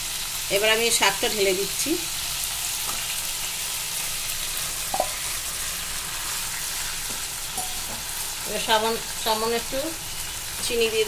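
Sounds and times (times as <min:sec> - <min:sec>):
prawns sizzling in a pan: 0:00.0 - 0:11.0.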